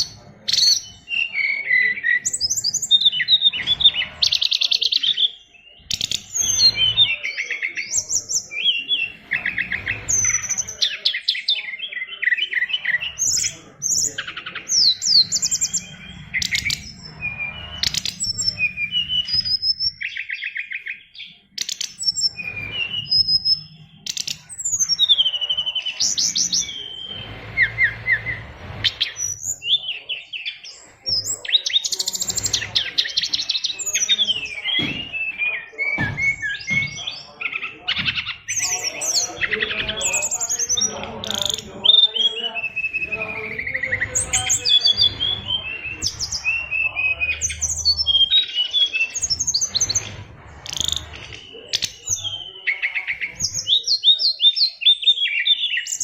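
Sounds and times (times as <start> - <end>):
songbird singing varied phrases: 0.0 - 56.0.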